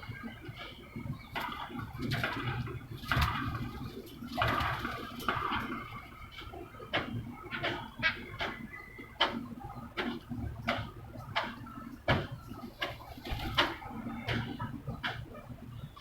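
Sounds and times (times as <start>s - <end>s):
pigeons pecking hard surface: 0.1s - 15.4s.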